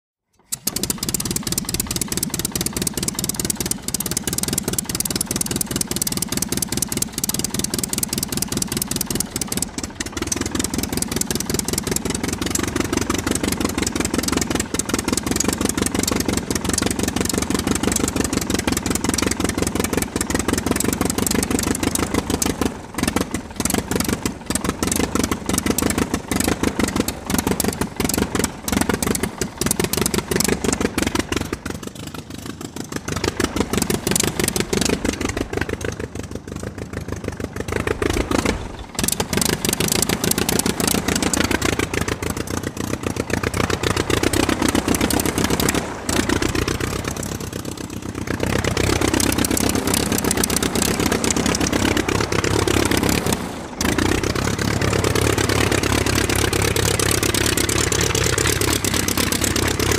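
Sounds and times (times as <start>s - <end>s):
propeller aircraft engine running: 0.2s - 59.9s.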